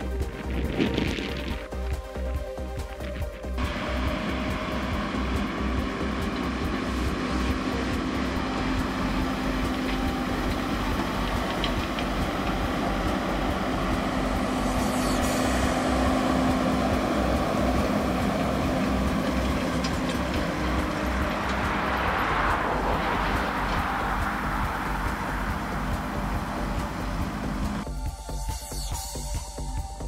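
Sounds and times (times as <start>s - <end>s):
tractor engine running under load: 0.0s - 28.1s
baler low pulsing: 0.0s - 28.3s.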